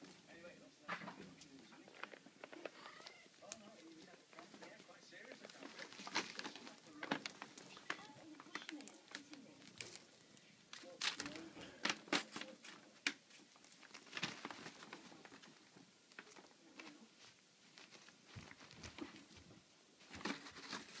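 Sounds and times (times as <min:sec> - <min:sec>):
paper bag rustling: 0:03.6 - 0:21.0.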